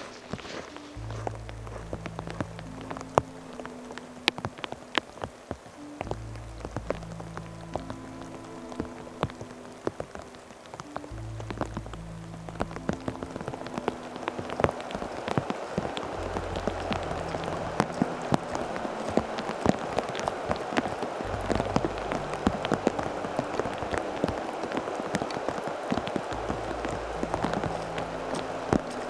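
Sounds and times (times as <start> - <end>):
heavy raindrops ticking: 0.0 - 29.0
steady rain hiss: 0.0 - 29.0.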